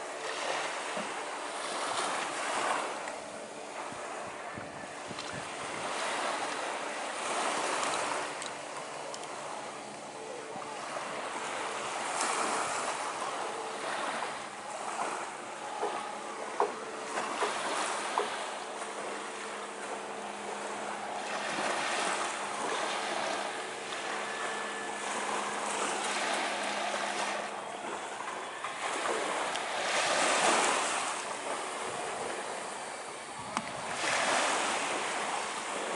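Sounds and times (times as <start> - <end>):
faint steady hum: 0.0 - 35.9
small waves lapping: 0.0 - 35.9.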